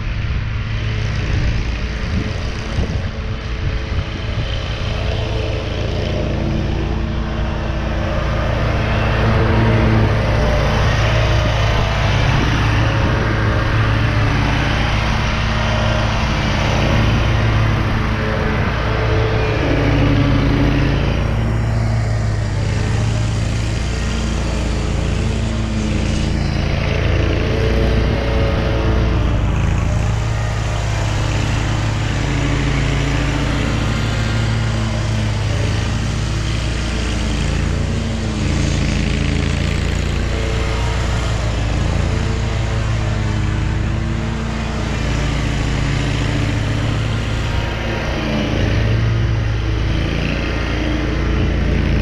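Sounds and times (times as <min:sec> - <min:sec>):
riding mower engine running: 0:00.0 - 0:52.0.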